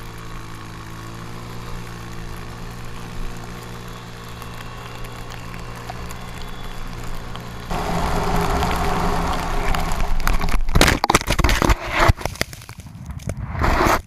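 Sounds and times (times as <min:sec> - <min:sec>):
quad bike engine: 0:00.0 - 0:12.2
knocks and crunches in snow: 0:00.0 - 0:14.0.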